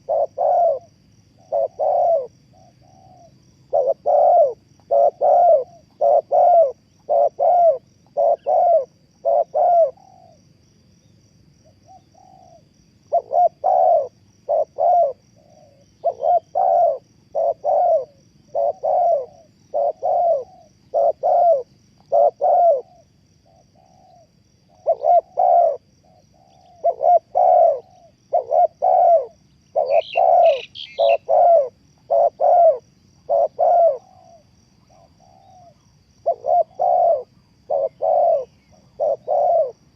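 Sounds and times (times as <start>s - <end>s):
bird chirp: 0.0s - 10.4s, 11.0s - 39.8s
dove cooing: 0.0s - 10.5s, 11.6s - 39.9s.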